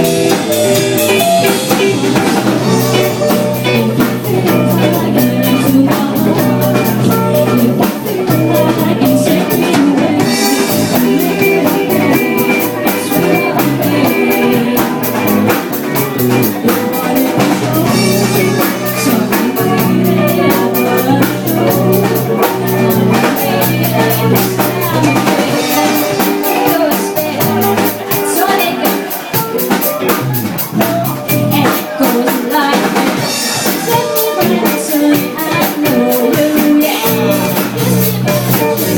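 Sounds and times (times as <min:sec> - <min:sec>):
band music: 0:00.0 - 0:38.9
drum kit beat: 0:00.0 - 0:38.9.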